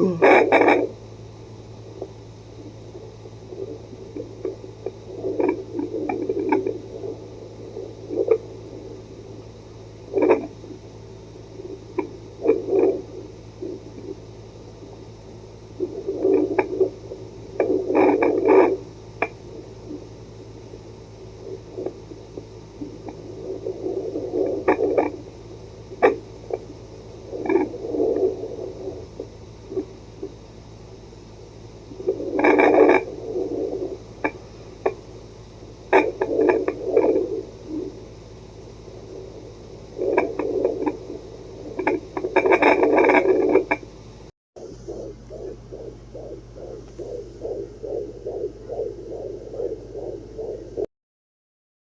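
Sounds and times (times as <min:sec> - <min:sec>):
doppler speaker hum and hiss: 0:00.0 - 0:50.9.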